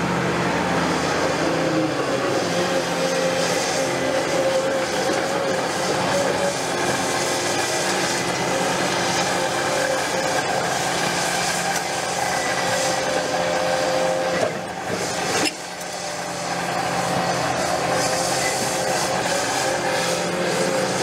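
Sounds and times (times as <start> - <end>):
excavator engine and hydraulics: 0.0 - 21.0
hydraulic whine: 0.0 - 21.0
concrete rubble scraping: 1.4 - 21.0.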